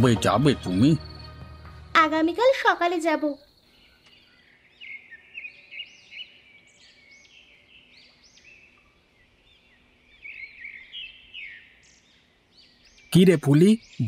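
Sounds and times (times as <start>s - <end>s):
birds chirping and twittering: 0.0s - 14.0s.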